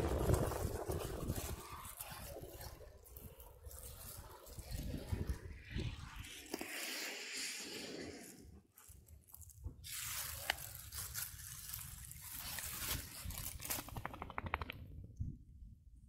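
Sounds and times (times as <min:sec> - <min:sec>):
dog digging in dry sand: 0:00.0 - 0:14.1.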